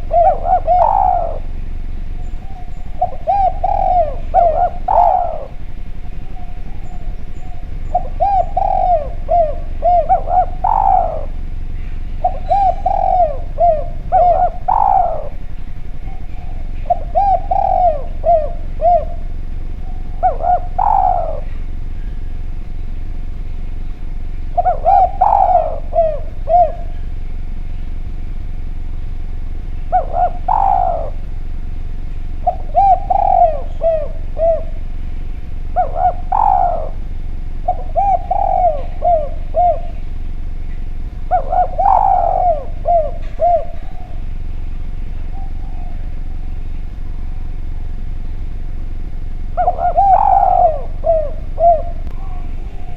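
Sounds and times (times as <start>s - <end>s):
faint high bird chirps: 0.0s - 48.6s, 49.6s - 52.9s
dove cooing: 0.0s - 52.9s.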